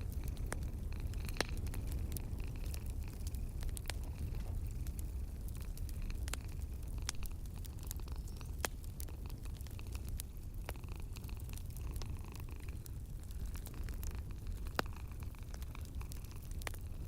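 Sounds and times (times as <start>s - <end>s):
cat purring: 0.0s - 17.0s
wood fire crackling and popping: 0.0s - 17.0s.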